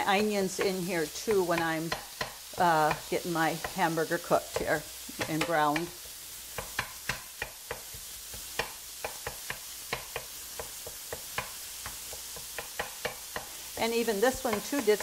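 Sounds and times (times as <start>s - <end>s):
meat sizzling in a skillet: 0.0s - 15.0s
utensil clicking against pan: 0.1s - 3.9s, 4.5s - 15.0s.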